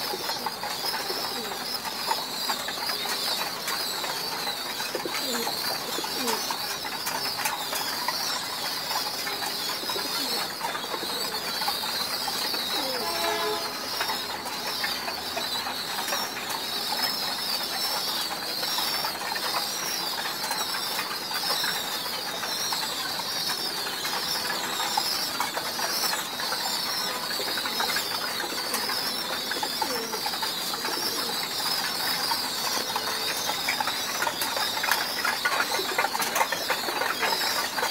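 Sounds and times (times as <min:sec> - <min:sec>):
high-pitched bird chirping: 0:00.0 - 0:37.9
pigeons cooing: 0:00.0 - 0:37.9.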